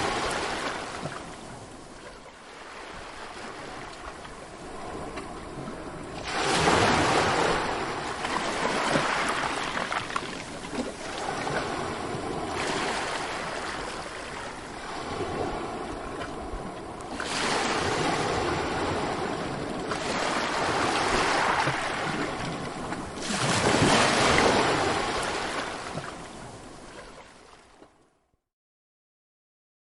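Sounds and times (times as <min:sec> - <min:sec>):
ocean waves breaking: 0:00.0 - 0:27.8.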